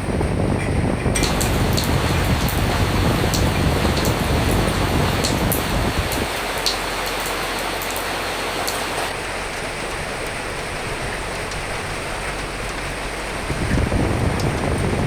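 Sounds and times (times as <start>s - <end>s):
low wind rumble: 0.0s - 15.0s
rain drop ticks: 1.1s - 15.0s
steady rain hiss: 1.1s - 15.0s.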